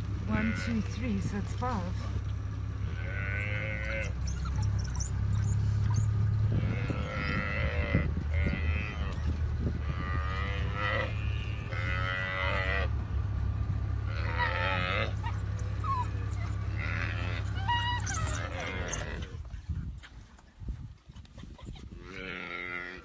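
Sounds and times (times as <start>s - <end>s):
steady low rumble: 0.0s - 23.0s
buffalo calf bawling: 0.3s - 12.9s, 14.0s - 19.5s, 21.6s - 23.0s.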